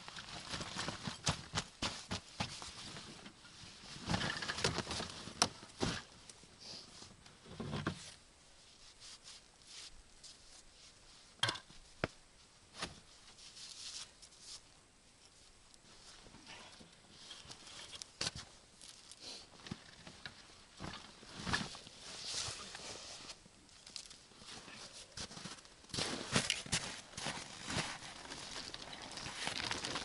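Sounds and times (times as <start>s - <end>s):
rustling and brushing: 0.0s - 30.0s.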